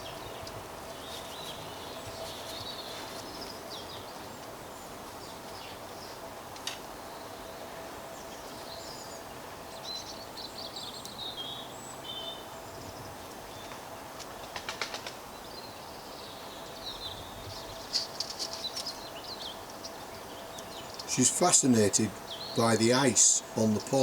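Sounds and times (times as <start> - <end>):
small birds chirping: 0.0 - 6.2, 8.2 - 14.6, 15.2 - 24.0
outdoor background hiss: 0.0 - 24.0.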